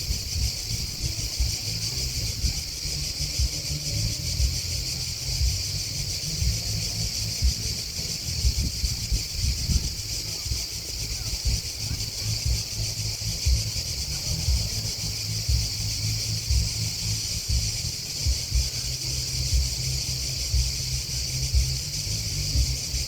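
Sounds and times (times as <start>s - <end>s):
grasshoppers and crickets chirping: 0.0s - 23.0s
low uneven rumble with bumps: 0.0s - 23.0s.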